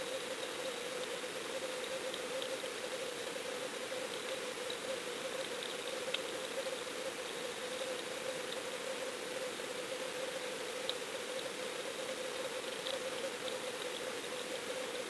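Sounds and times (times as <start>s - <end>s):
faint ticks: 0.0s - 15.0s
steady underwater hiss: 0.0s - 15.0s.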